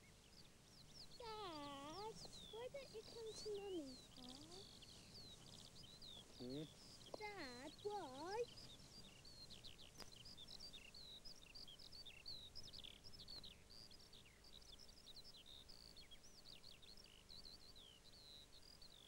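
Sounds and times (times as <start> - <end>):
birds chirping and trilling: 0.0 - 19.0.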